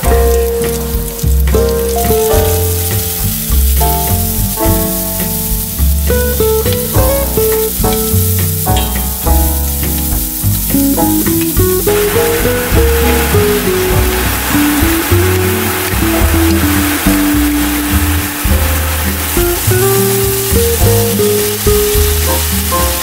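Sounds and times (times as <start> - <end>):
background music: 0.0 - 23.0
food sizzling in hot oil: 0.0 - 23.0.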